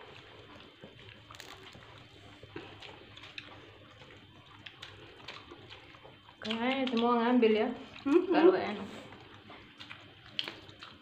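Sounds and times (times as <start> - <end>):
faint low hum: 0.0 - 11.0
people eating by hand: 0.0 - 11.0.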